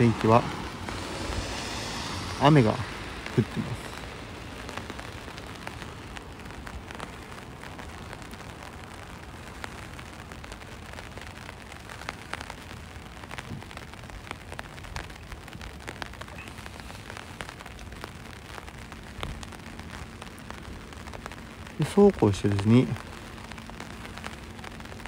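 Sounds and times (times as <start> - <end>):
light rain hissing: 0.0 - 25.0
raindrops ticking: 0.0 - 25.0.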